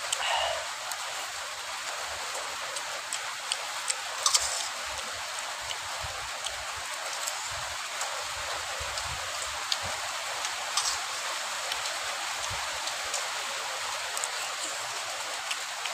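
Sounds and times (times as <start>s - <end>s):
rain hissing: 0.0s - 15.9s.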